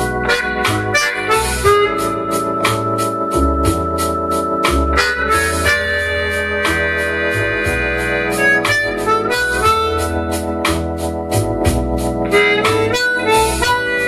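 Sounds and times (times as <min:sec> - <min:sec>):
backing track bass keyboard drums: 0:00.0 - 0:14.0
blues harmonica: 0:00.0 - 0:14.0.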